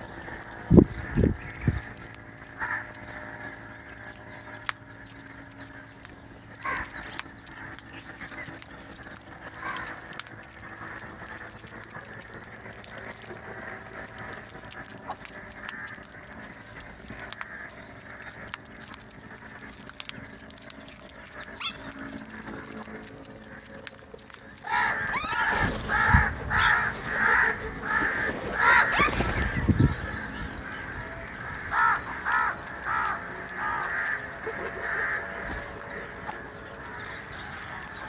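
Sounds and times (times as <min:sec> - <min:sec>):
crows and mynas chattering: 0:00.0 - 0:38.0
loud bird calls: 0:00.0 - 0:38.0.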